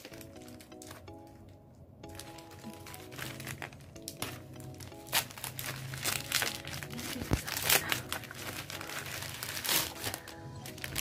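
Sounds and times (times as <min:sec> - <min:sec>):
gift packaging crinkling: 0:00.0 - 0:11.0.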